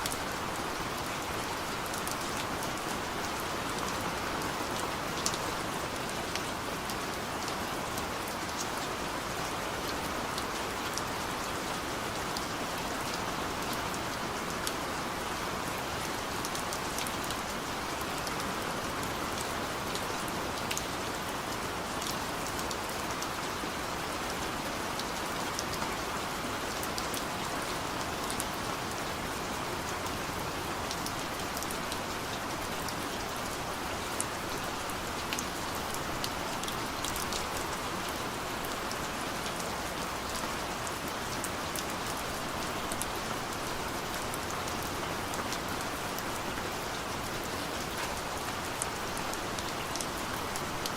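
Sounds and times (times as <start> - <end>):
heavy rain downpour: 0.0 - 50.9.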